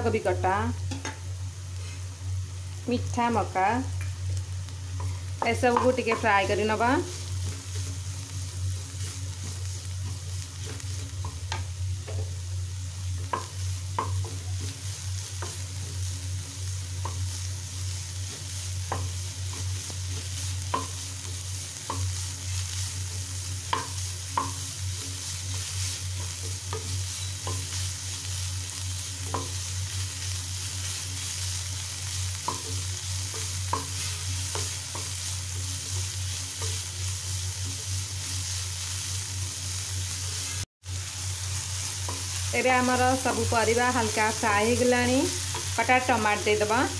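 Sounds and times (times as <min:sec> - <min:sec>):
vegetables sizzling in oil: 0:00.0 - 0:46.9.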